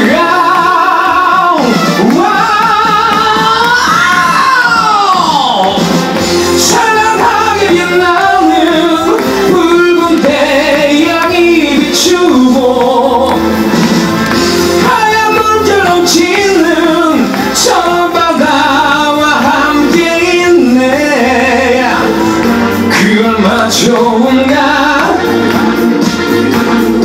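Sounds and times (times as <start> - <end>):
man singing into microphone: 0.0 - 5.9, 6.5 - 13.4, 14.8 - 25.4
instrumental accompaniment: 0.0 - 27.0.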